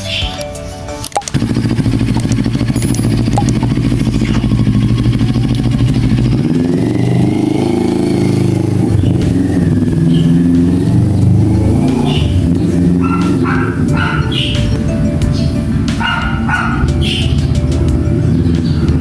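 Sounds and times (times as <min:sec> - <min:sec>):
motorcycle engine running: 0:01.1 - 0:19.0.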